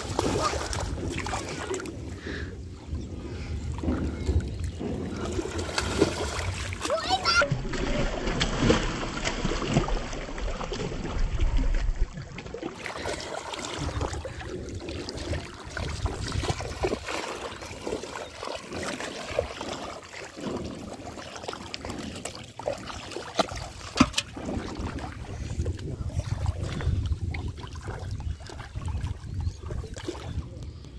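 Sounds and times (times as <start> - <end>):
wading splashes: 0.0 - 2.8, 3.5 - 30.6
water splashing and sloshing: 0.0 - 30.9.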